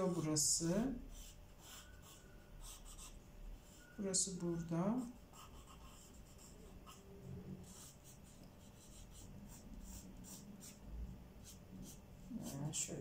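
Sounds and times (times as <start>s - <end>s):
pencil scratching on paper: 0.0s - 3.9s, 4.6s - 10.8s, 11.4s - 12.8s.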